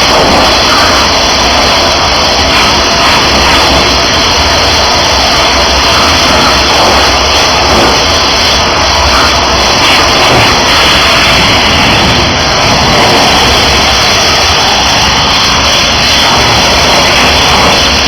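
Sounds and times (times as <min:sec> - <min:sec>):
water jet hissing: 0:00.0 - 0:18.0.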